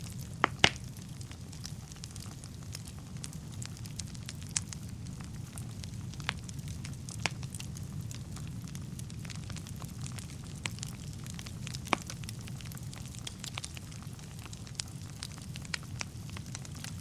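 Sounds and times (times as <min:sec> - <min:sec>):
burning logs crackling and popping: 0:00.0 - 0:17.0
fire flames rumbling: 0:00.0 - 0:17.0.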